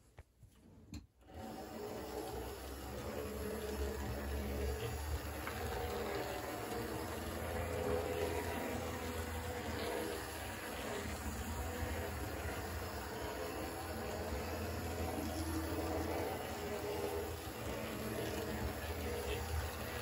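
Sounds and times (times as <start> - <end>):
model train running on rails: 1.3 - 20.0.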